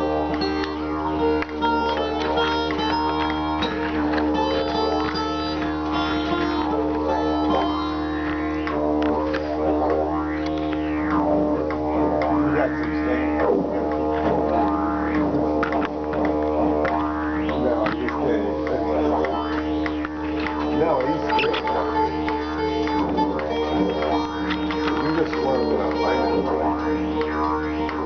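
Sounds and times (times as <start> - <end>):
low drone with sweeping overtones: 0.0 - 28.0.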